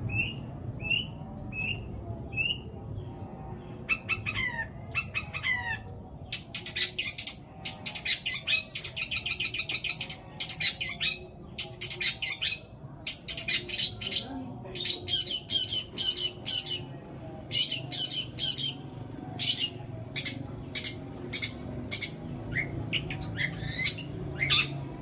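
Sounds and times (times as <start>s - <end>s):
shrike singing mimicked calls: 3.7s - 24.9s.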